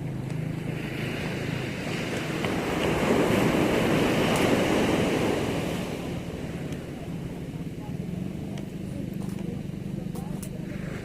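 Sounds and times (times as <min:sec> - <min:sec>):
sea waves washing in: 0:00.0 - 0:11.0.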